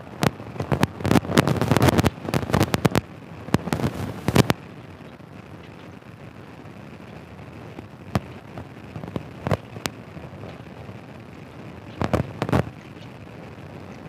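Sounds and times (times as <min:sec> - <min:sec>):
sharp pops: 0:00.0 - 0:06.2, 0:07.1 - 0:10.9, 0:11.6 - 0:14.0.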